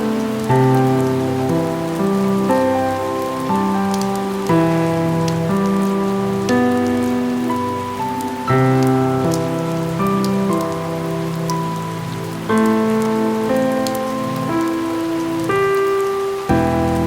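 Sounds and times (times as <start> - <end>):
raindrop ticks: 0.0 - 17.0
soft music of held chords: 0.0 - 17.0
steady rain: 0.0 - 17.0.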